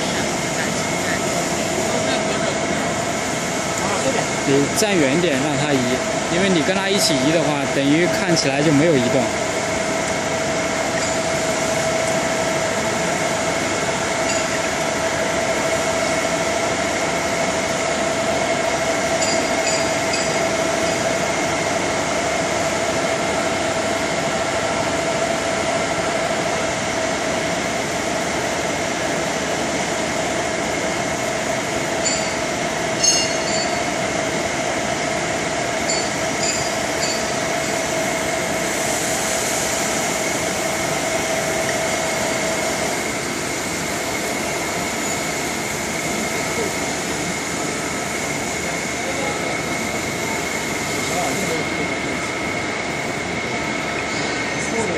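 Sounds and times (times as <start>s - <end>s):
cutting machine hiss and whine: 0.0s - 54.9s.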